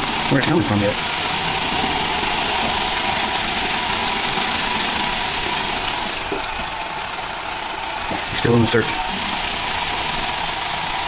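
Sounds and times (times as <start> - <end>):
robot vacuum motor whir: 0.0 - 11.0.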